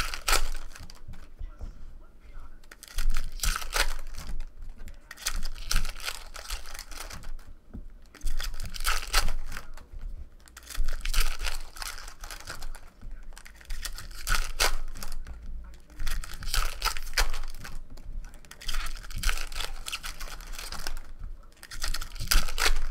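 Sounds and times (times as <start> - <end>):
foil wrappers crinkling and tearing: 0.0 - 1.3, 2.6 - 22.9.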